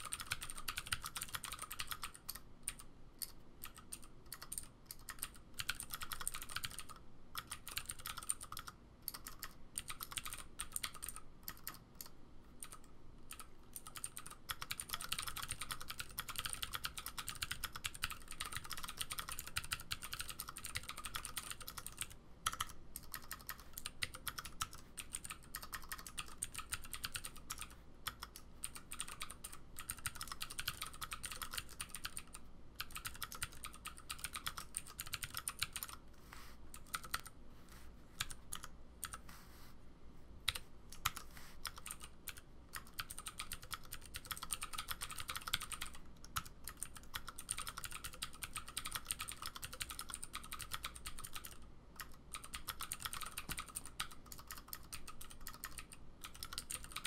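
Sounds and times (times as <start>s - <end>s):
clicky mechanical keyboard typing: 0.0s - 36.0s, 36.7s - 37.3s, 38.2s - 39.2s, 40.5s - 57.0s.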